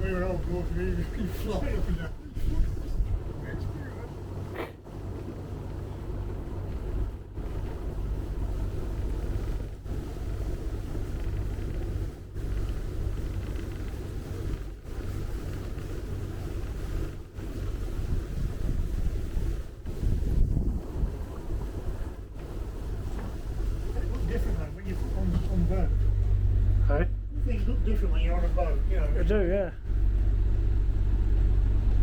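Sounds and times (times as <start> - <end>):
boat engine rumbling: 0.0 - 32.0.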